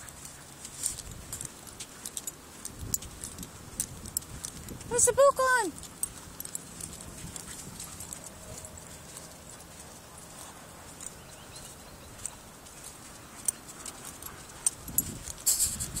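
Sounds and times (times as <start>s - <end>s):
footsteps on wet sand: 0.0s - 16.0s.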